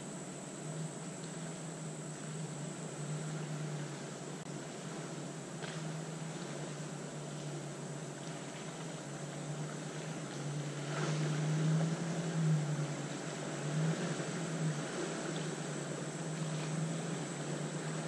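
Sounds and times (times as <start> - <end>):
suv engine driving through mud: 0.6 - 18.0.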